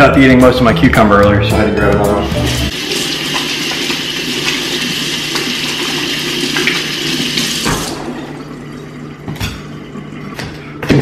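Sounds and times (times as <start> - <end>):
faucet running water: 1.7 - 10.8.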